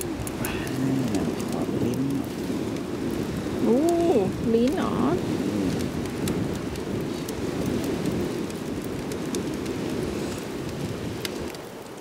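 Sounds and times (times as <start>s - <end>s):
fire crackling and popping: 0.0s - 12.0s
rush of flames: 0.0s - 12.0s.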